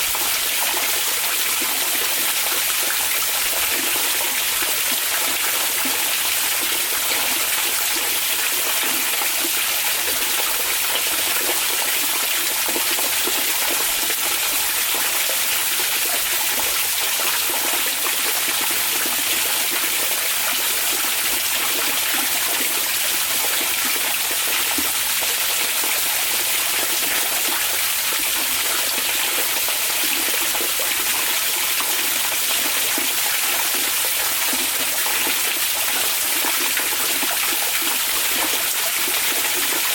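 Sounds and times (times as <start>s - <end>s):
hot spring water splashing: 0.0s - 39.9s.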